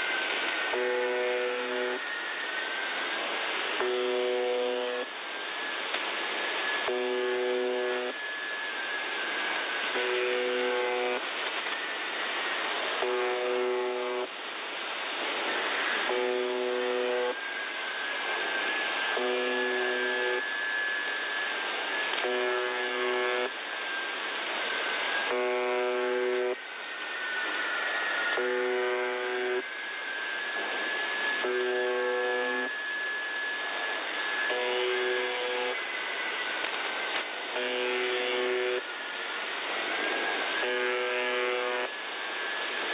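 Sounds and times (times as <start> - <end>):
static hiss: 0.0 - 42.9
harsh radio buzz tone: 0.6 - 5.7, 6.6 - 14.3, 15.4 - 24.0, 25.1 - 39.2, 39.9 - 42.9.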